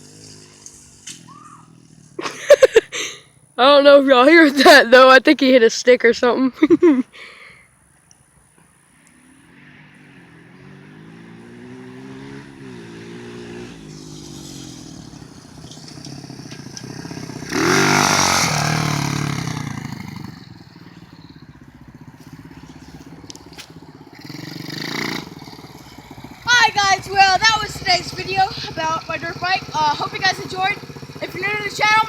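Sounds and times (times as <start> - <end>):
dirt bike engine revving: 0.0 - 5.1, 9.3 - 32.0.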